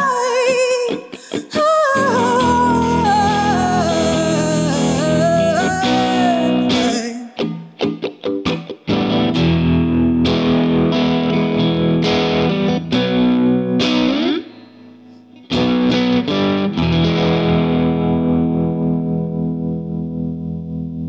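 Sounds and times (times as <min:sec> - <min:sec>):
distorted electric guitar chords: 0:02.0 - 0:21.0.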